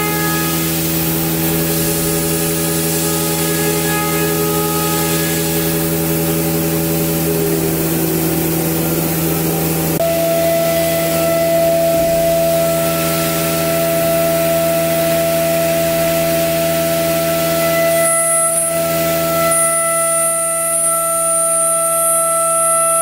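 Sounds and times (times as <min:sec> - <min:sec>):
metal cutting noise: 0:00.0 - 0:23.0
router spindle whine: 0:00.0 - 0:23.0.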